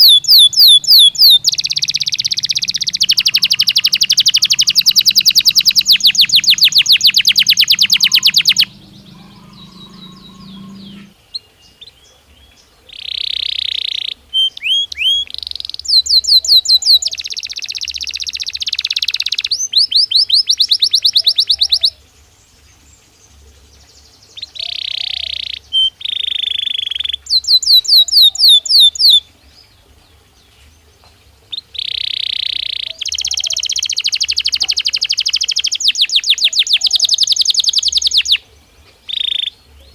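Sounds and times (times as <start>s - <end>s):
canary singing trills: 0.0s - 22.1s, 22.8s - 30.4s, 31.0s - 39.9s.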